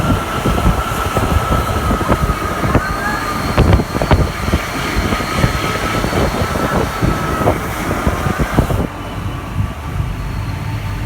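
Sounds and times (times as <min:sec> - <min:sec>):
steady high tone: 0:00.0 - 0:11.0
train rumbling with knocks: 0:00.0 - 0:11.0.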